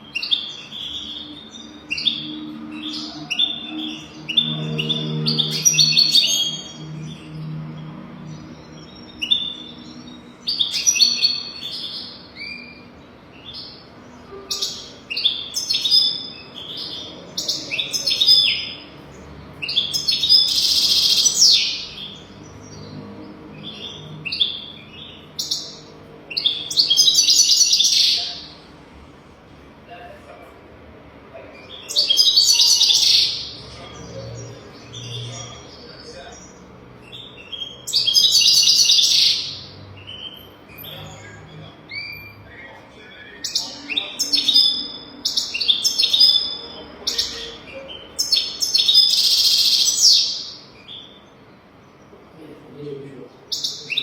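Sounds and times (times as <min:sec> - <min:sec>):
goldfinch singing: 0:00.0 - 0:18.8, 0:19.6 - 0:28.5, 0:31.6 - 0:51.2.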